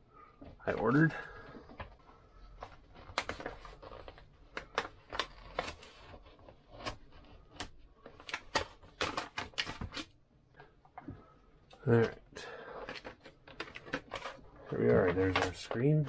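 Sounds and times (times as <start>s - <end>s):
tape and cardboard crackling: 0.4s - 16.0s.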